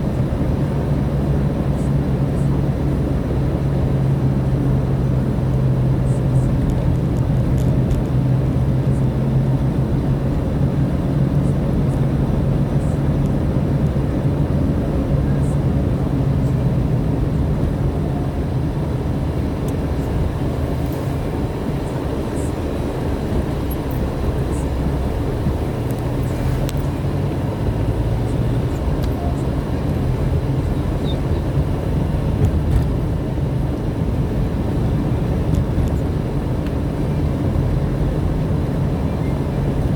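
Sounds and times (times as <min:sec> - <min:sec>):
car engine drone: 0:00.0 - 0:39.9
tyre and road noise: 0:00.0 - 0:39.9.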